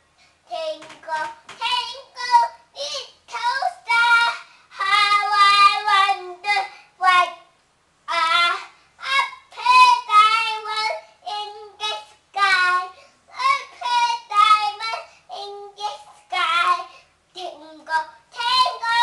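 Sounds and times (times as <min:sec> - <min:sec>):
boy singing: 0:00.5 - 0:07.5, 0:08.1 - 0:19.0.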